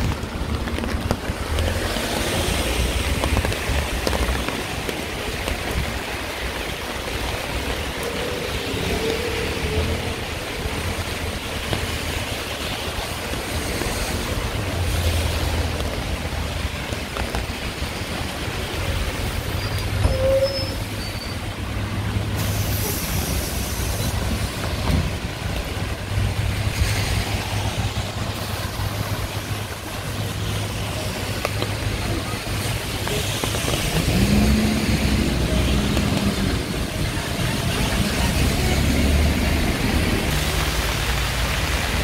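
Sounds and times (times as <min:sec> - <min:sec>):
rain and wet road noise: 0:00.0 - 0:42.0
vehicle engines rumbling: 0:00.0 - 0:42.0.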